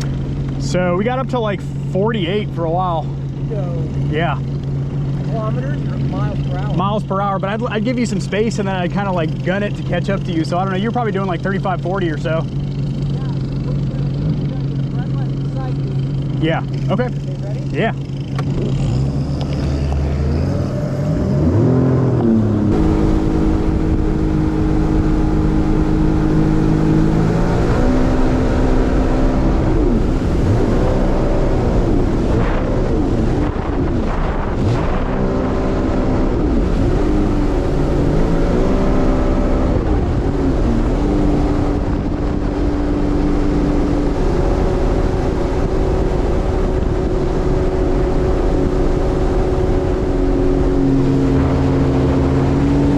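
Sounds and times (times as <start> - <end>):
watercraft engine at full throttle: 0.0 - 52.9.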